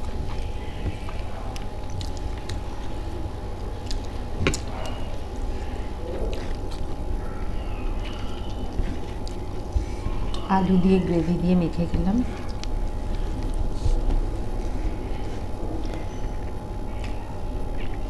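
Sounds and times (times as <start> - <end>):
chewing: 0.0 - 10.5, 12.2 - 18.0
steady low hum: 0.0 - 18.0.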